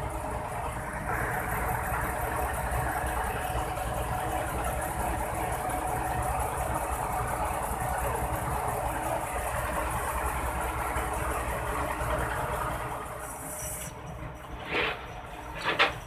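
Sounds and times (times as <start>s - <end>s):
tow truck engine running: 0.0s - 16.0s.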